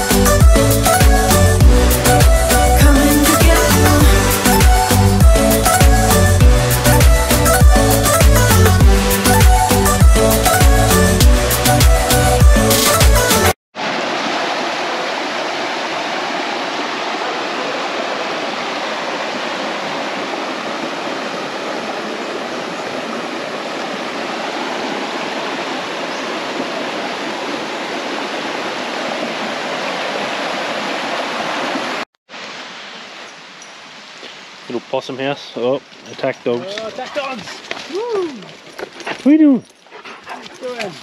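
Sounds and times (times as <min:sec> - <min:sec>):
creek water rushing over rocks: 0:00.0 - 0:09.9, 0:13.8 - 0:39.4.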